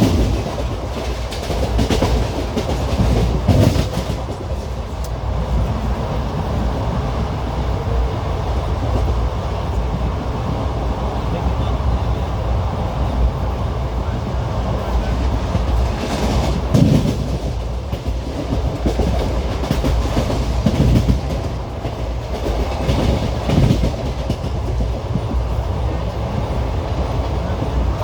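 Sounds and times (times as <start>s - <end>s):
clickety-clack over rail joints: 0.0s - 12.2s, 13.0s - 28.0s
train wheels rumbling on track: 0.0s - 28.0s.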